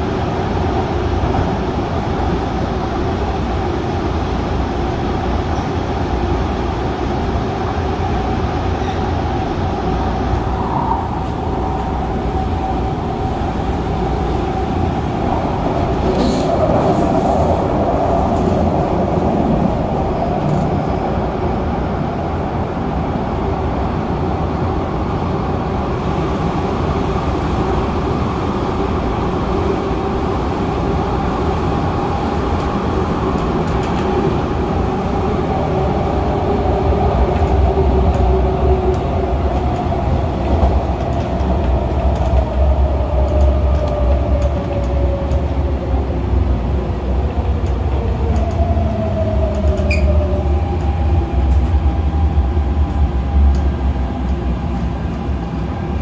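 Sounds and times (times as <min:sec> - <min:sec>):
train rail running noise: 0:00.0 - 0:56.0.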